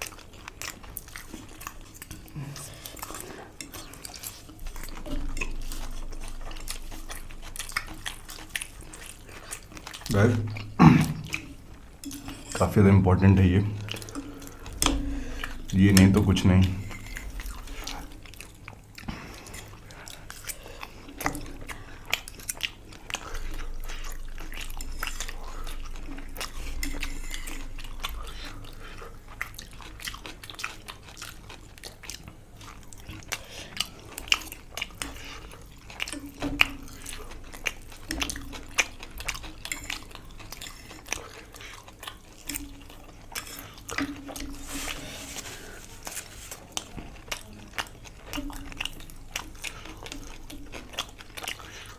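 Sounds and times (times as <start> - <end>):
biting and chewing food: 0.0 - 51.9.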